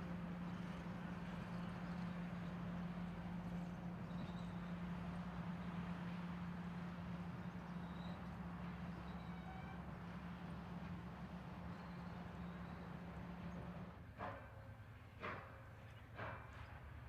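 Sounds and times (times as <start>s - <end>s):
locomotive machinery humming: 0.0s - 17.0s.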